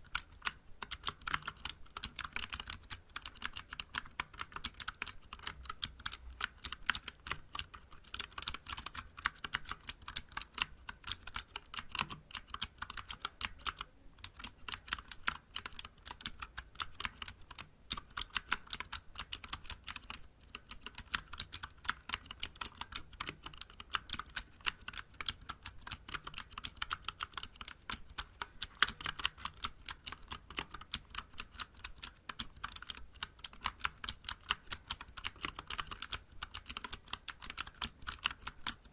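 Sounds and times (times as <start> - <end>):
fast clicky keyboard typing: 0.0 - 38.9.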